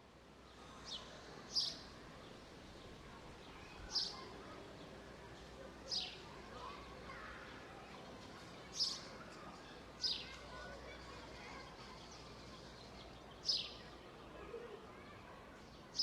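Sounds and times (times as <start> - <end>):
outdoor park ambience hum: 0.0 - 16.0.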